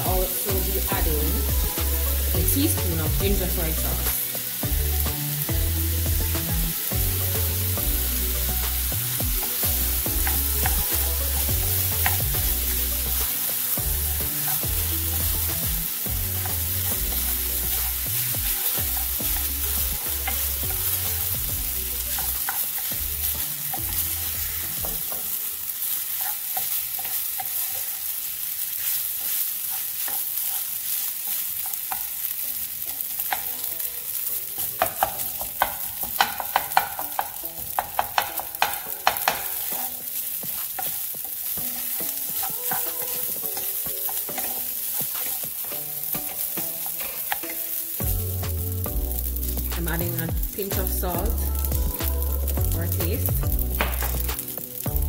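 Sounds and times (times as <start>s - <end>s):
rice sizzling in hot oil: 0.0s - 55.0s.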